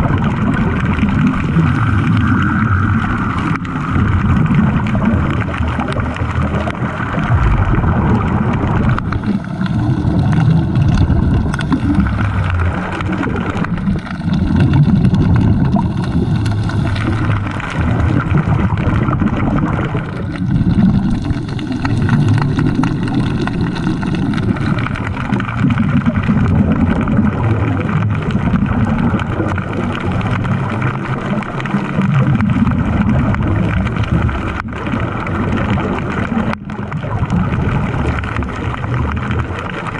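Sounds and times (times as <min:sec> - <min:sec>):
muffled underwater water rumble: 0:00.0 - 0:39.9.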